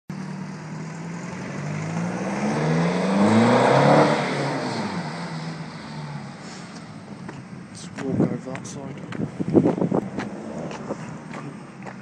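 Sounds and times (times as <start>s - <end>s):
diesel engine accelerating: 0.1s - 12.0s.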